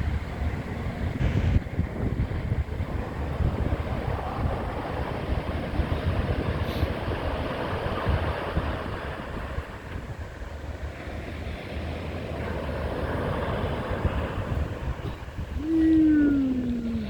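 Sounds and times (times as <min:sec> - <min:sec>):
sea waves washing onto beach: 0:00.0 - 0:17.0
wind buffeting microphone: 0:00.0 - 0:17.0.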